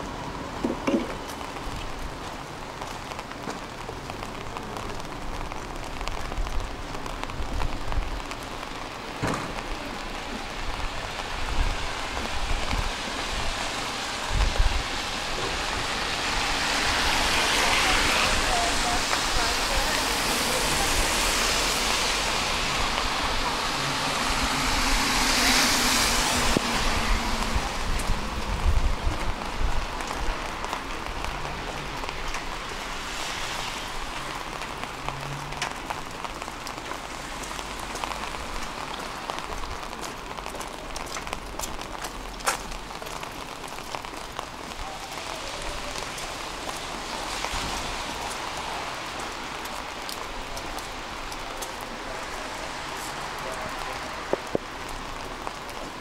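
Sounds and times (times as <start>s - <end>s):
rain hiss: 0.0s - 56.0s
vehicle passing on wet road: 0.0s - 56.0s.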